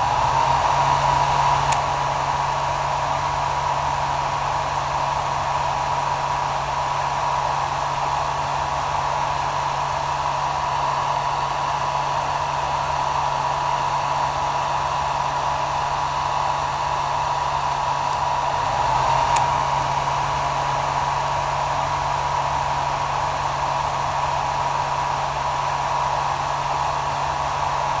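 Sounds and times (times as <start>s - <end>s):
hair dryer running: 0.0s - 28.0s.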